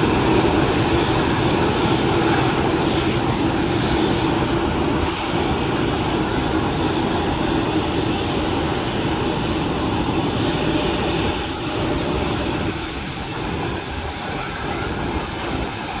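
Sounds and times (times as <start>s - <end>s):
jet engines at taxi power: 0.0s - 16.0s.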